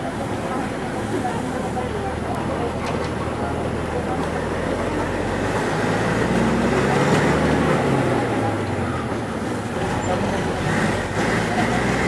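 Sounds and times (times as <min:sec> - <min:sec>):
road noise inside car: 0:00.0 - 0:12.0
vehicle engine hum: 0:00.0 - 0:12.0.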